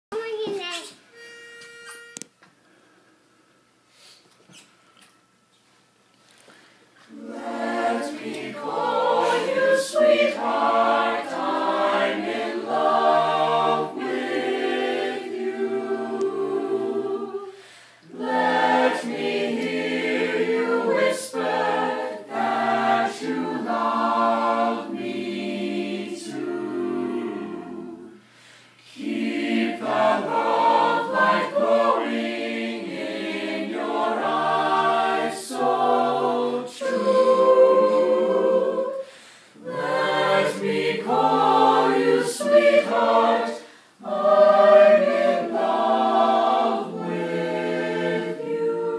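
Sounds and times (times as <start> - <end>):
mixed choir singing a cappella: 7.0 - 48.9.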